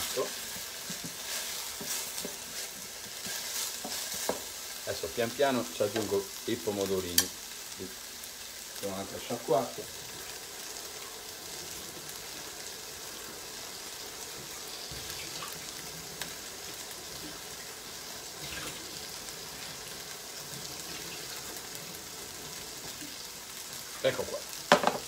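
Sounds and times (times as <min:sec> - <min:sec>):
food sizzling in a pan: 0:00.0 - 0:25.0.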